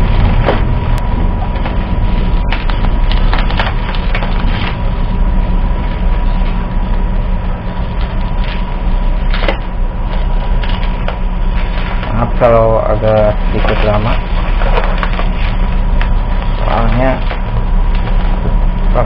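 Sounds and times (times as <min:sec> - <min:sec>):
low rumble: 0:00.0 - 0:19.0
bubble wrap crinkling: 0:01.6 - 0:07.1, 0:07.7 - 0:19.0.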